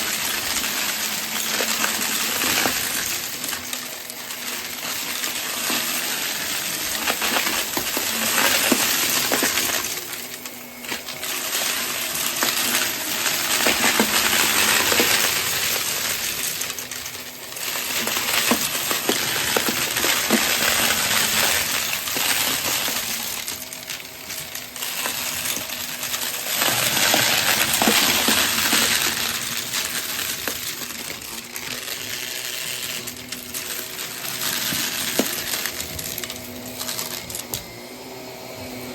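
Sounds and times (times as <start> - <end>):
debris rattling through vacuum: 0.0 - 37.8
vacuum cleaner running: 0.0 - 38.9.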